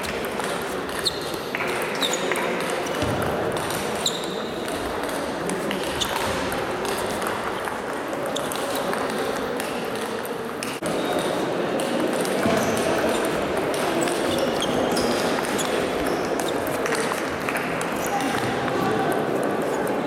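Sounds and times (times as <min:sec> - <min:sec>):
murmur of voices: 0:00.0 - 0:20.0
table tennis balls clicking: 0:00.1 - 0:18.5.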